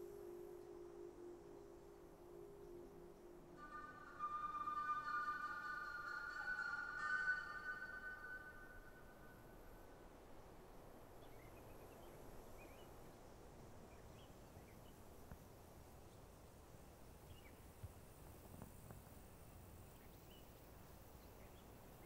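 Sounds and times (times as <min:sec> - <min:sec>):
soft hiss: 0:00.0 - 0:22.0.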